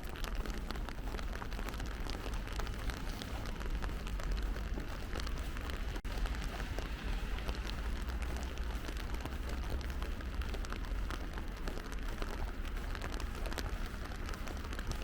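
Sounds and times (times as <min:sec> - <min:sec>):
low rumble: 0:00.0 - 0:15.0
steady rain patter: 0:00.0 - 0:15.0.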